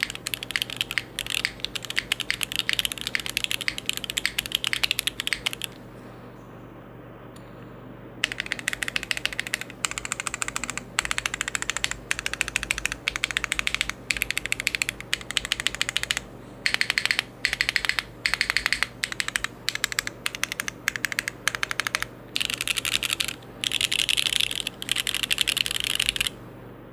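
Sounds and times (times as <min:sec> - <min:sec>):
fast typing on mechanical keyboard: 0:00.0 - 0:05.8, 0:08.2 - 0:26.4.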